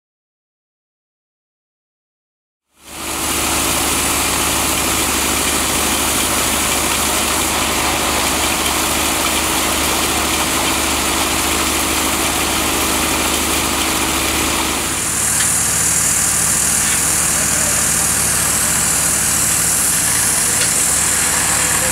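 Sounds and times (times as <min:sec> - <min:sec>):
large engine idling: 0:02.8 - 0:21.9.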